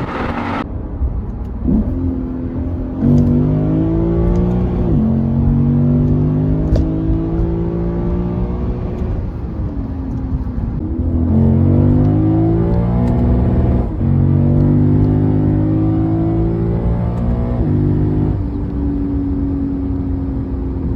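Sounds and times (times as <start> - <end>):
car engine exhaust accelerating: 0.0 - 20.9.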